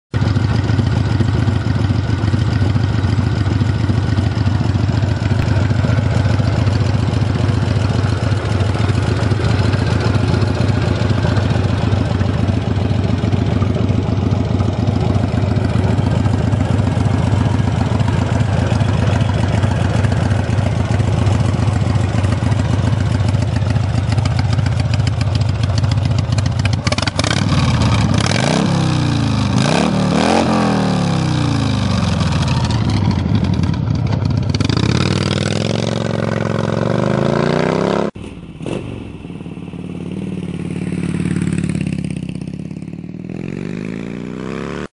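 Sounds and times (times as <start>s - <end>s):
motorcycle engine idling and revving: 0.1s - 44.9s.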